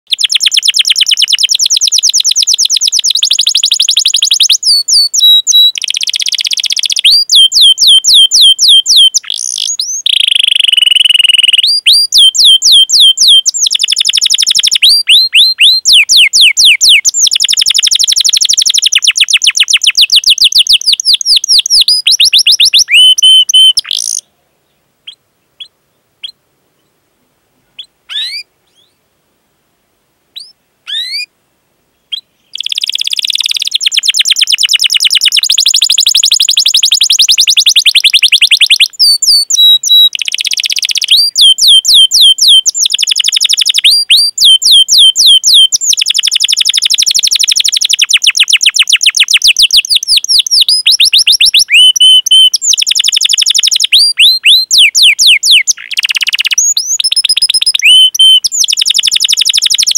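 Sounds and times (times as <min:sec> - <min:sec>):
canary singing: 0:00.1 - 0:24.3, 0:25.0 - 0:26.4, 0:27.8 - 0:29.0, 0:30.4 - 0:31.3, 0:32.1 - 0:59.9.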